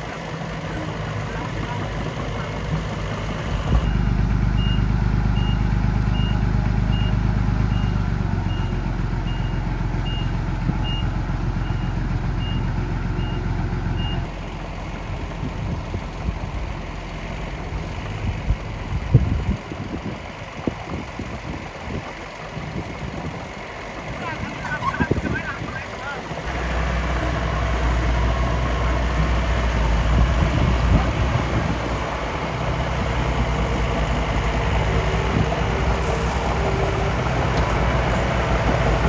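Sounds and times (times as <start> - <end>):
small truck engine running: 0.0 - 39.0.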